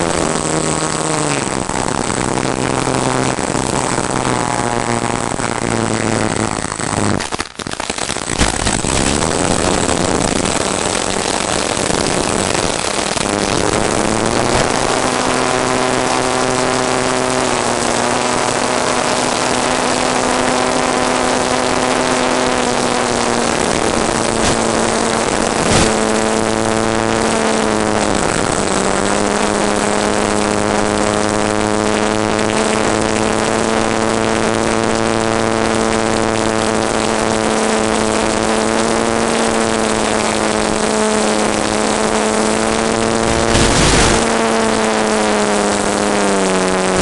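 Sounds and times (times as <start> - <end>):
rushing air: 0.0 - 33.2, 39.0 - 46.2
model aircraft motor and propeller: 0.0 - 47.0.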